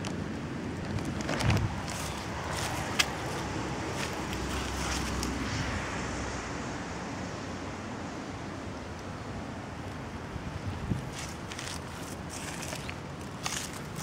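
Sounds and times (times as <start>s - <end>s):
distant road traffic: 0.0s - 14.0s
wind: 0.0s - 14.0s.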